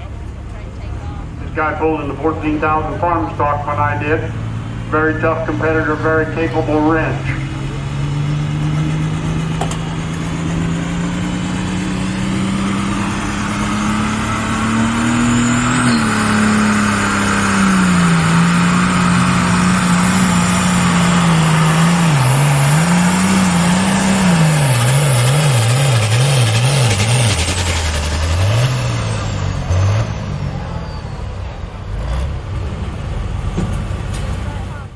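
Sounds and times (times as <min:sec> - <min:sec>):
diesel tractor engine at full throttle: 0:00.0 - 0:34.9.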